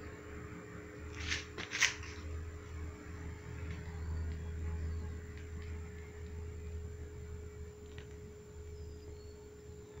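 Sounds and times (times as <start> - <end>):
alcohol stove flame rumbling: 0.0 - 10.0.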